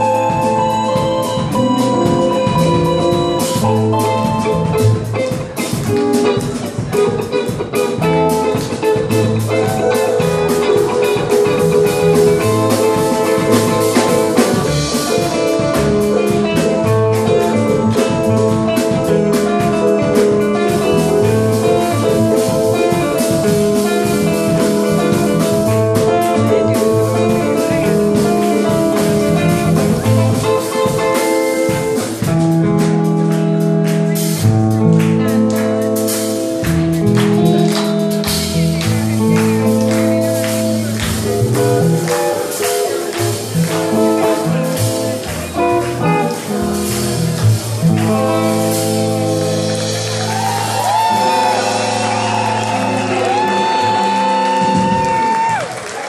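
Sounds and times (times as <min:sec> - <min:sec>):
live band playing reggae: 0:00.0 - 0:56.0.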